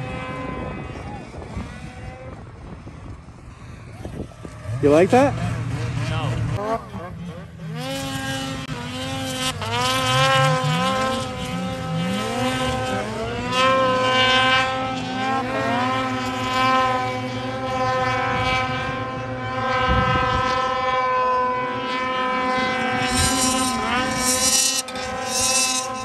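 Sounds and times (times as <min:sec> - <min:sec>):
snowmobile engines revving: 0:00.0 - 0:26.0.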